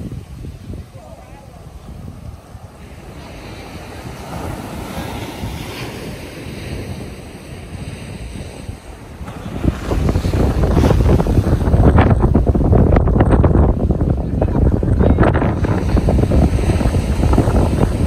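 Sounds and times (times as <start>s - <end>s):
ocean waves breaking on beach: 0.0s - 18.0s
wind buffeting microphone: 0.0s - 18.0s.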